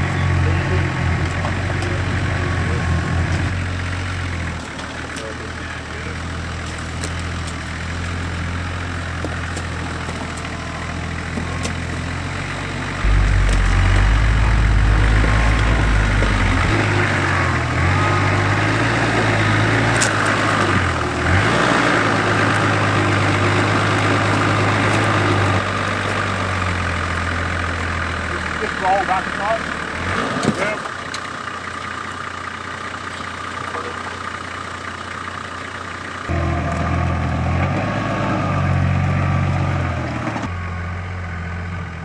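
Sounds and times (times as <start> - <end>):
engine pulling at low revs: 0.0 - 42.0.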